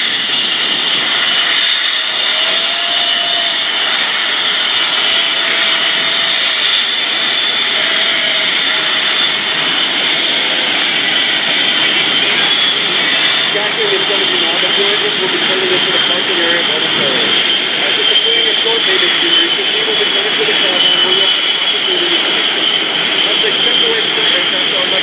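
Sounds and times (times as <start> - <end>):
jet engines high-pitched whine: 0.0 - 25.0
rush of jet noise: 0.0 - 25.0.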